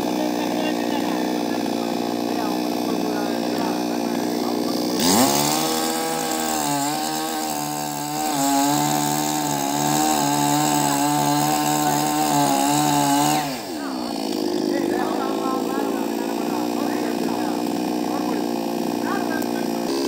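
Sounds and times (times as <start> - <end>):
chainsaw cutting branch: 0.0 - 20.0.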